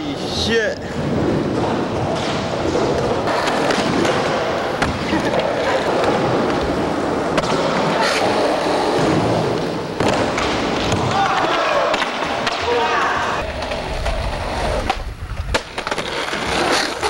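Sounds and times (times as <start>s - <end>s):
skateboard wheels rolling: 0.2s - 17.0s.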